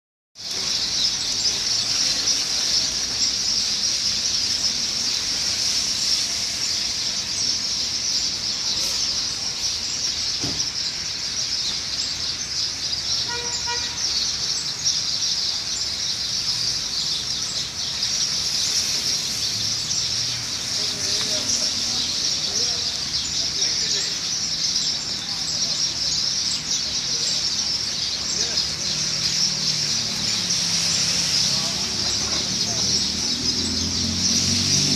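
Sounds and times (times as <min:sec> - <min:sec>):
chorus of birds chirping: 0:00.4 - 0:34.9.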